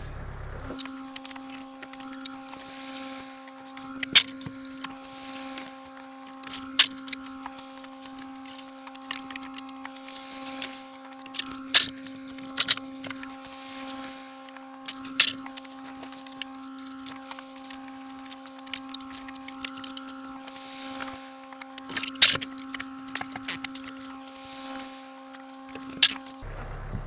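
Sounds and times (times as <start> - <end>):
electric machine humming: 0.0 - 27.0.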